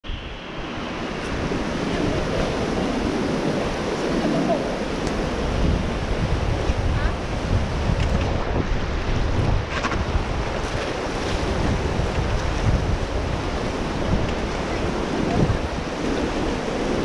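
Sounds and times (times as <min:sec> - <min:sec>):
wind buffeting microphone: 0:00.0 - 0:17.0
river rushing over rocks: 0:00.1 - 0:17.0.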